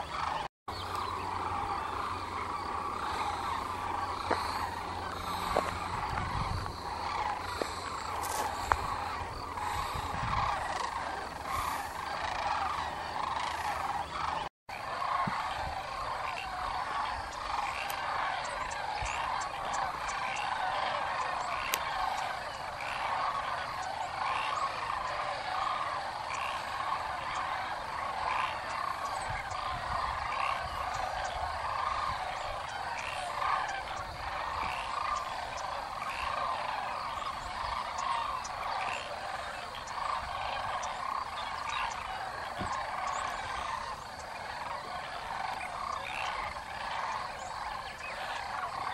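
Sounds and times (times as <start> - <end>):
chorus of animals calling: 0.0 - 48.9.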